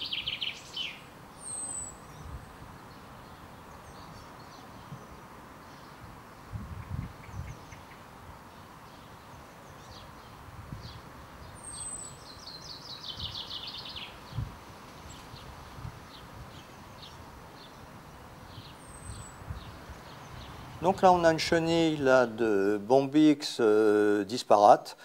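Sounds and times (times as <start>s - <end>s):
small songbirds calling: 0.0s - 25.0s.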